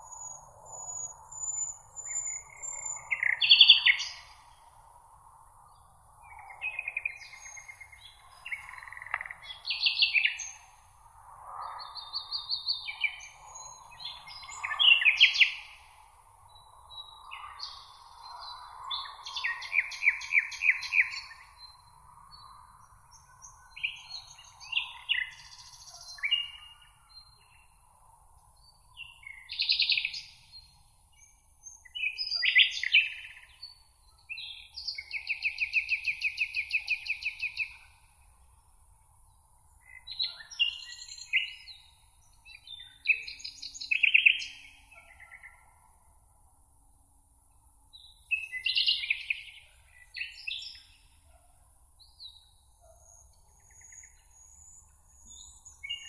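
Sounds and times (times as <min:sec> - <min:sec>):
songbirds warbling and trilling: 0:00.0 - 0:46.0, 0:47.8 - 0:56.0.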